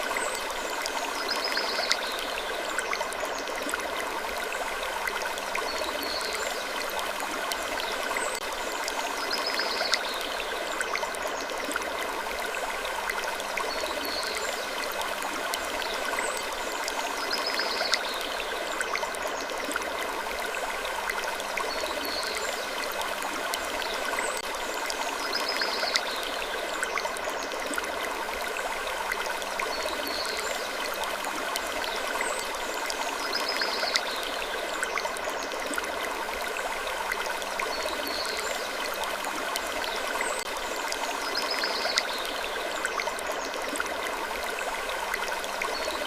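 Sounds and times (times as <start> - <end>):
rushing noise like running water: 0.0 - 46.0.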